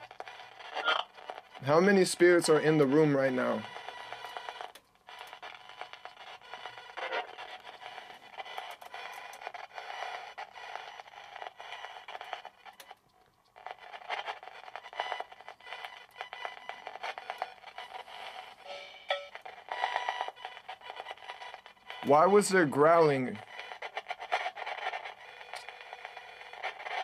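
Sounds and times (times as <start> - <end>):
choppy radio music fragments: 0.0 - 13.0, 13.6 - 27.0
radio static: 0.0 - 27.0.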